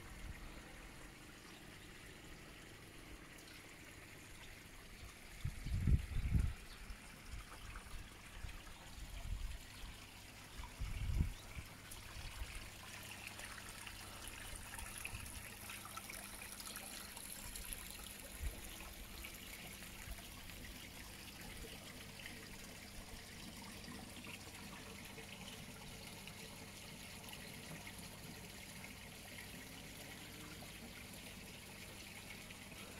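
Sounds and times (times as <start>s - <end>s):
water trickling in a stream: 0.0s - 32.9s.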